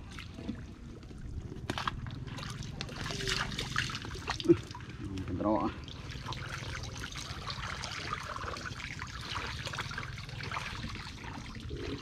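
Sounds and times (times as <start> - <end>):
water sloshing from wading: 0.0 - 12.0.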